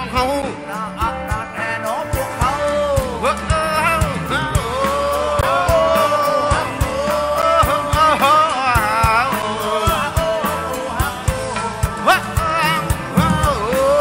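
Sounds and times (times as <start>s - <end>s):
accordion: 0.0s - 14.0s
electric guitar: 0.0s - 14.0s
man singing with vibrato: 0.0s - 14.0s
steady drum beat: 0.1s - 14.0s.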